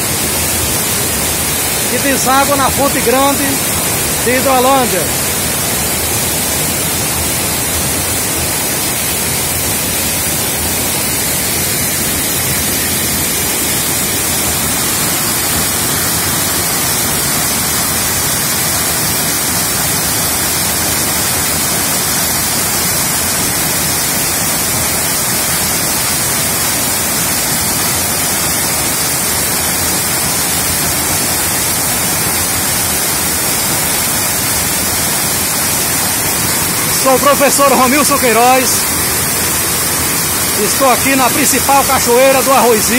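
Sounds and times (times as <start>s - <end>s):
waterfall and rapids rushing: 0.0s - 42.9s.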